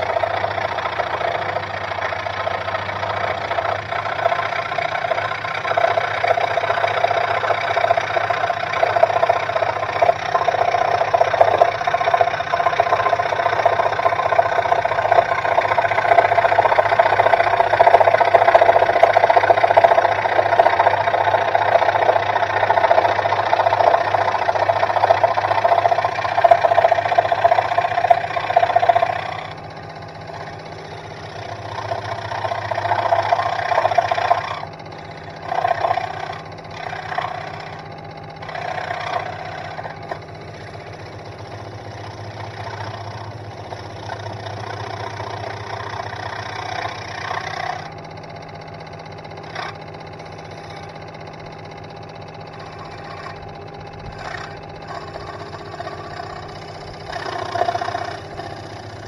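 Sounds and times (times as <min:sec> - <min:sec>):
motor hum: 0:00.0 - 0:59.0
scroll saw cutting wood: 0:00.0 - 0:59.0.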